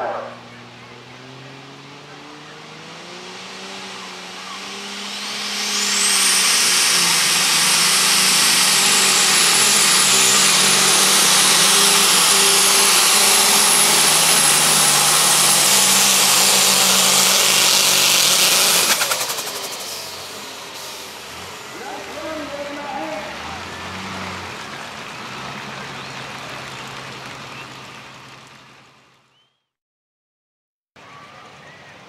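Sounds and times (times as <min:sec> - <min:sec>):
tractor engine revving at full load: 0:00.0 - 0:29.3.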